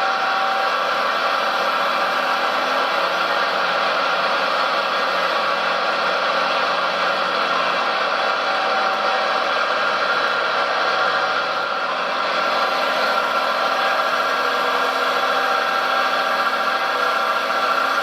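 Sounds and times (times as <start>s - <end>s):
model vehicle engine drone: 0.0s - 18.0s.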